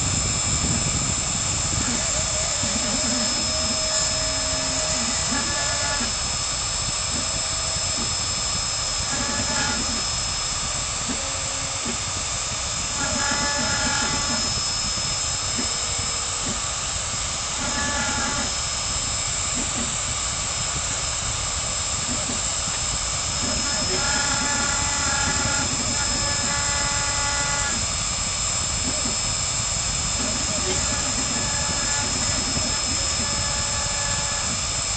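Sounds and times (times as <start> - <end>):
machine whining tones: 0.0 - 34.9
router spindle engraving wood: 0.0 - 34.9.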